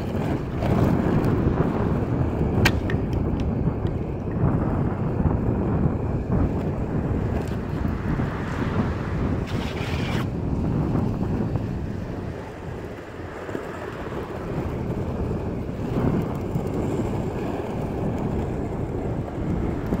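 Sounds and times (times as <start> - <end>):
skateboard wheels rumbling: 0.0 - 20.0
wind on microphone: 0.0 - 20.0.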